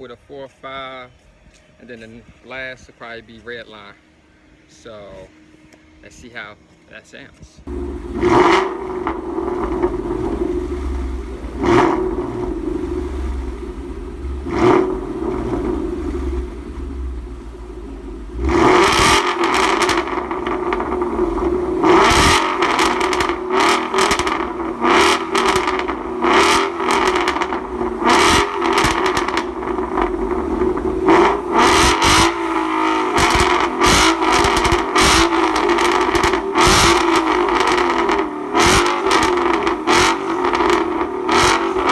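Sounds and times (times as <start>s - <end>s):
car engine idling and revving: 7.6s - 41.9s.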